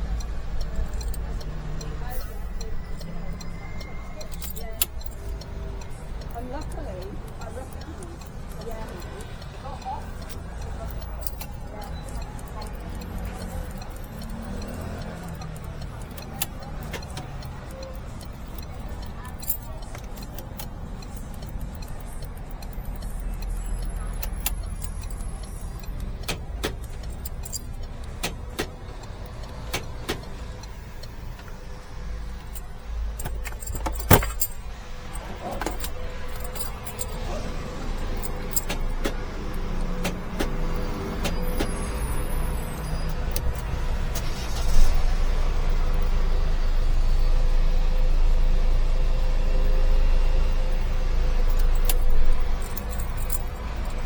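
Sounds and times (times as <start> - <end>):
car keys jangling: 0.1 - 54.0.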